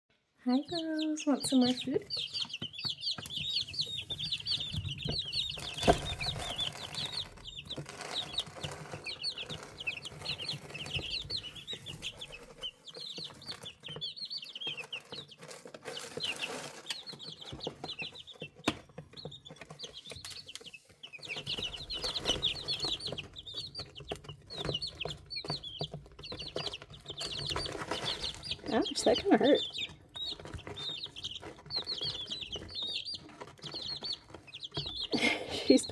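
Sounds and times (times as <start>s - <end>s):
chicks peeping: 0.5s - 35.9s.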